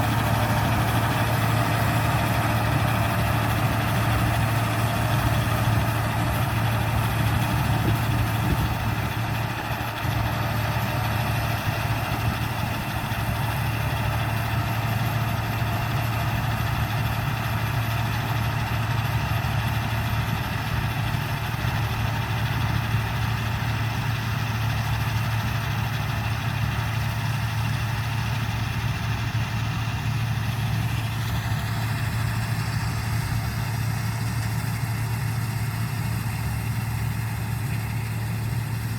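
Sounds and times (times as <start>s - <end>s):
combine harvester engine humming: 0.0s - 38.9s.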